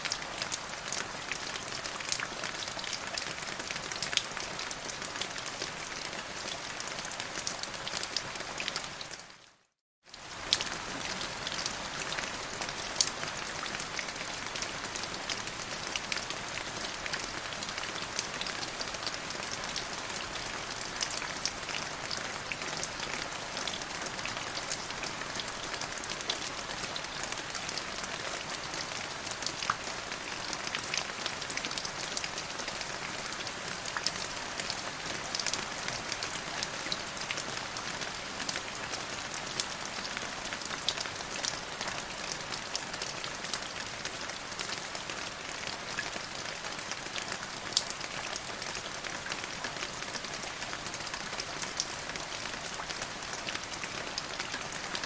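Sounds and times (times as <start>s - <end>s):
rain falling: 0.0s - 9.4s, 10.1s - 55.0s.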